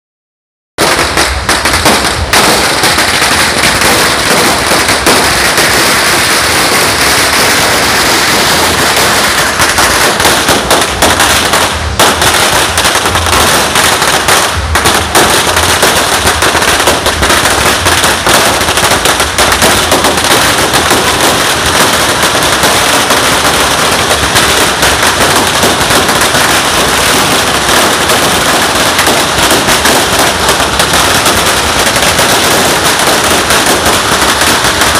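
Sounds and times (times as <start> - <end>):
firecrackers crackling: 0.8 - 34.9.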